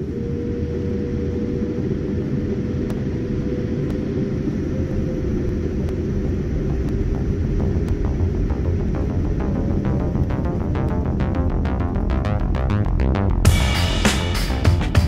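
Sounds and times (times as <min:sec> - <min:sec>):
jet engine whine: 0:00.0 - 0:12.3
jet cabin rumble: 0:00.0 - 0:13.5.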